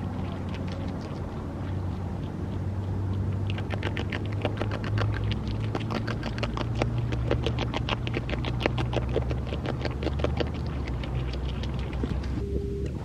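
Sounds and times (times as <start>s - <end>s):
beaver chewing leaves: 0.0s - 12.4s
steady low hum: 0.0s - 13.0s.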